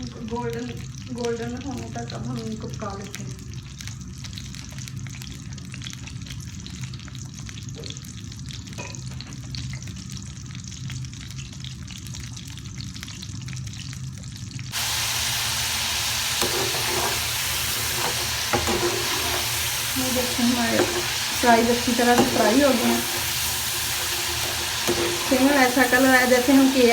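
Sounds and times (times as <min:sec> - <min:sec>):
fries sizzling in hot oil: 0:00.0 - 0:26.9.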